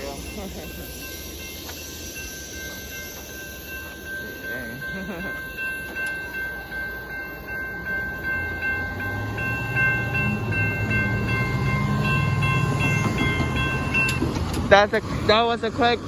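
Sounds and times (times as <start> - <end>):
crossing bell ringing: 0.0 - 16.0
freight train rolling past: 0.0 - 16.0.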